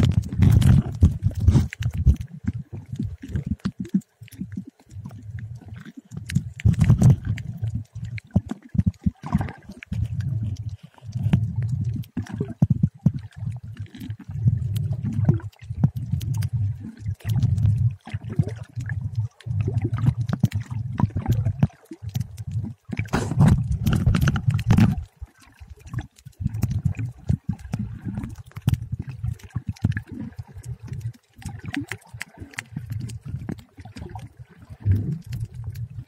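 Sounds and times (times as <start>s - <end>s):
underwater sloshing and gurgling: 0.0s - 36.0s.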